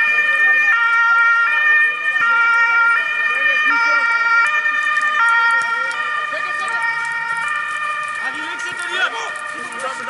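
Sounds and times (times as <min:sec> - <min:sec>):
two-tone emergency siren: 0:00.0 - 0:10.0.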